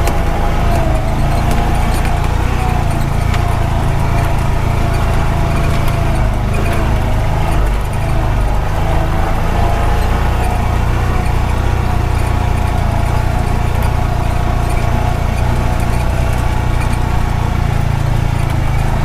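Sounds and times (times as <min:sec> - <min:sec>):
clicks and rattles: 0:00.0 - 0:19.0
utility vehicle engine droning: 0:00.0 - 0:19.0.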